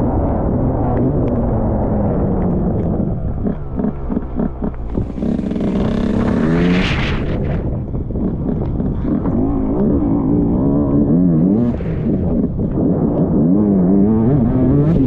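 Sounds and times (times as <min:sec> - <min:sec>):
off-road motorcycle engine revving: 0:00.0 - 0:15.0.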